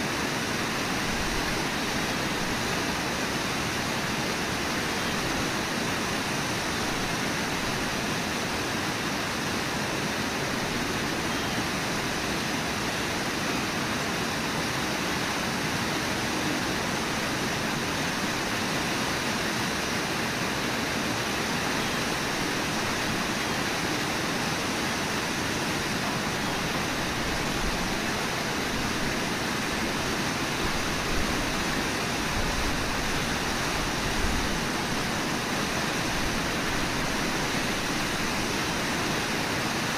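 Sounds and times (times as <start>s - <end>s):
whitewater rushing over waterfall: 0.0s - 39.9s.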